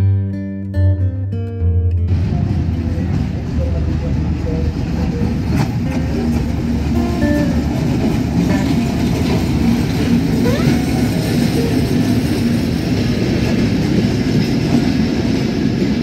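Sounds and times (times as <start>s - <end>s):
diesel locomotive passing: 2.0s - 16.0s
train wheels on rails: 2.1s - 16.0s.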